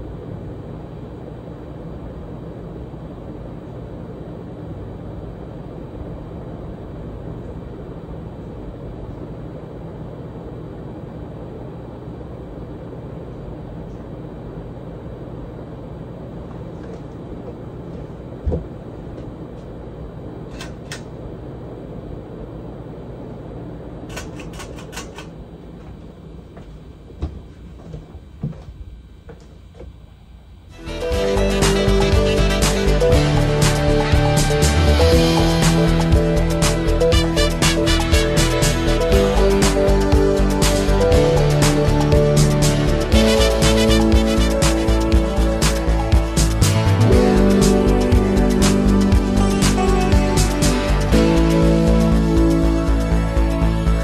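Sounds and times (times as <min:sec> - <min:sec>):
ceiling fan running: 0:00.0 - 0:54.0.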